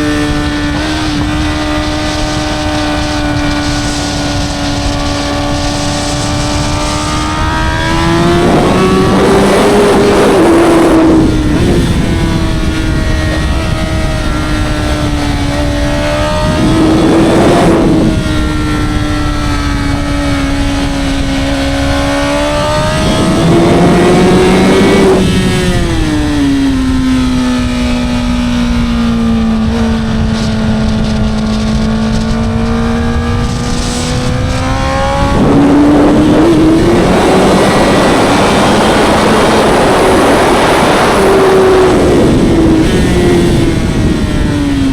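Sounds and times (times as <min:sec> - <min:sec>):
motorcycle engine at racing speed: 0:00.0 - 0:44.9.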